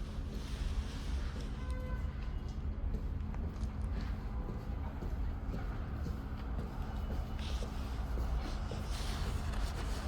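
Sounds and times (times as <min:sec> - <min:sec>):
faint footsteps: 0:00.2 - 0:10.0.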